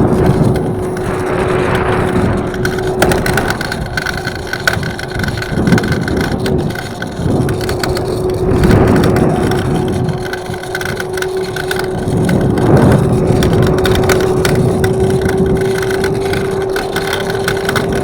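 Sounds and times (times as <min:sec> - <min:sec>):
electric scooter hum and rumble: 0:00.0 - 0:18.0
high whine: 0:00.0 - 0:18.0
sharp clicks: 0:00.1 - 0:18.0.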